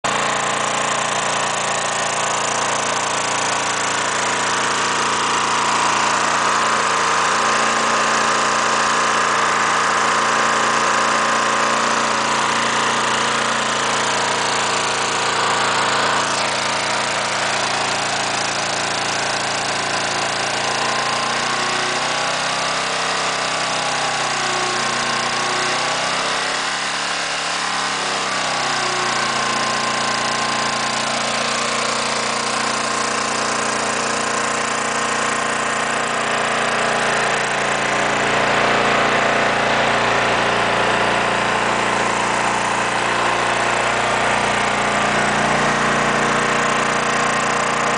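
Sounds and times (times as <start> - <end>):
lawn mower engine idling: 0.0 - 47.9.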